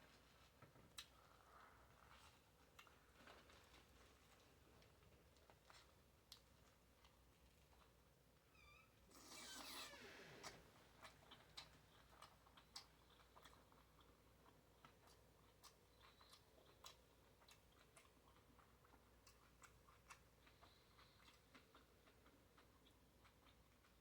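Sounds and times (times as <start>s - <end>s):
faint chewing: 0.0s - 8.3s, 10.3s - 24.0s.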